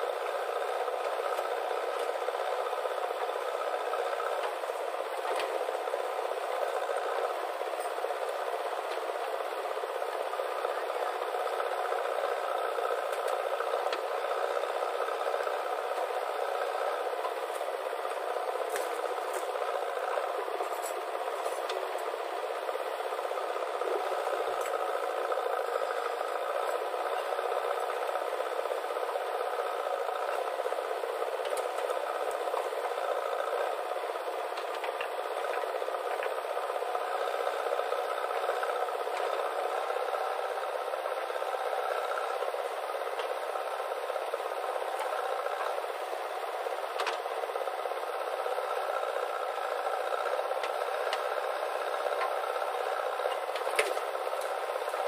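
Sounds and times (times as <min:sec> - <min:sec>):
backhoe engine and hydraulic drone: 0:00.0 - 0:55.0.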